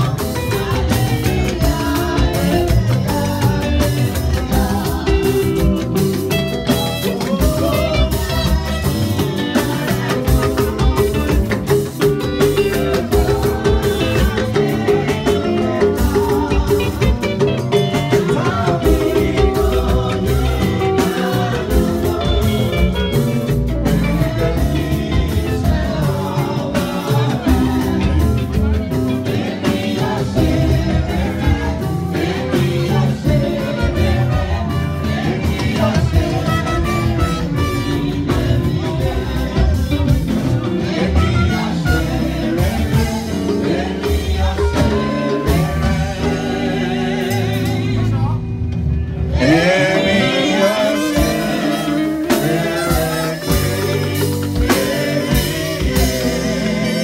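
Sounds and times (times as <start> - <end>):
choir singing gospel: 0.0 - 57.0
heavy bass: 0.0 - 57.0
steady drum beat: 0.0 - 57.0.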